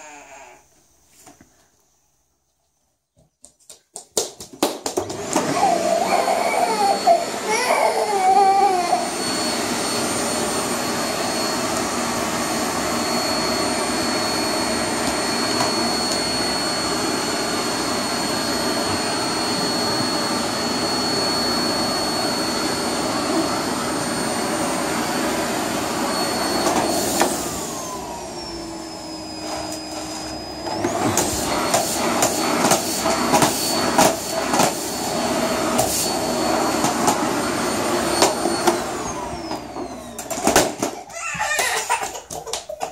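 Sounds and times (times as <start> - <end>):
vacuum cleaner running: 4.9 - 42.0.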